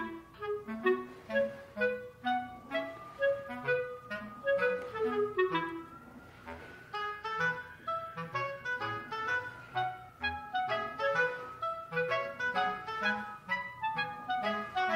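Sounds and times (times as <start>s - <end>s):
light bouncy melody: 0.0s - 14.9s.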